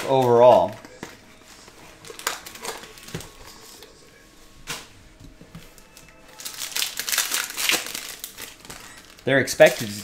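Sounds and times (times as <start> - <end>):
card packs rustling and tapping: 0.0 - 3.9, 5.4 - 10.0.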